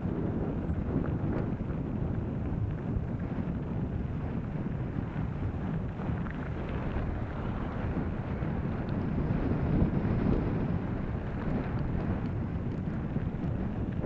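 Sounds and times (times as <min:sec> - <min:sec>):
bike rumbling and rattling: 0:00.0 - 0:14.0
wind buffeting microphone: 0:00.0 - 0:14.0.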